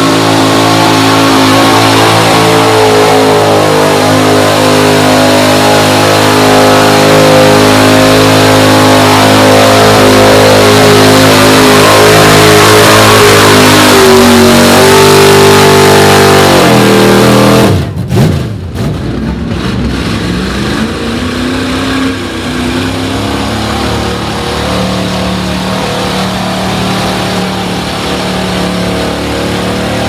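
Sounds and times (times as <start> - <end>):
truck engine revving high: 0.0 - 30.0.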